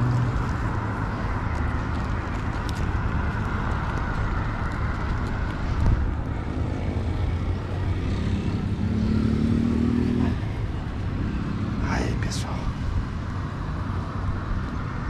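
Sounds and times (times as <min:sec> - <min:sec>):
traffic rumble: 0:00.0 - 0:15.0
vehicle engine: 0:00.0 - 0:15.0.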